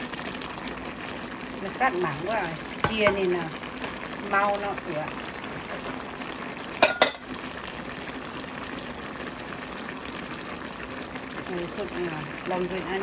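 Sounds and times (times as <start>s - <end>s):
stew bubbling and sizzling in a wok: 0.0s - 13.0s.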